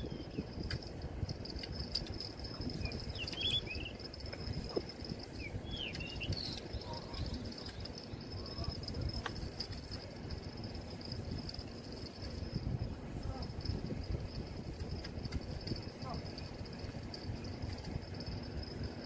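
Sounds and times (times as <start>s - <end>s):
high insect trill: 0.0s - 19.0s.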